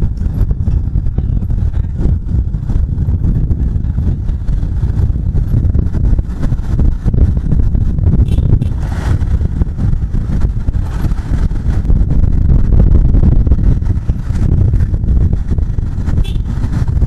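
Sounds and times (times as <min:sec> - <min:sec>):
motorcycle running: 0:00.0 - 0:17.0
wind buffeting microphone: 0:00.0 - 0:17.0.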